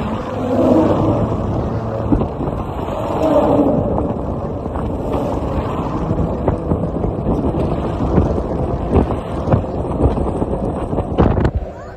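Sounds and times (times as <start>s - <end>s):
tyres rumbling on steel grid: 0.0s - 11.9s
wind buffeting microphone: 0.0s - 11.9s.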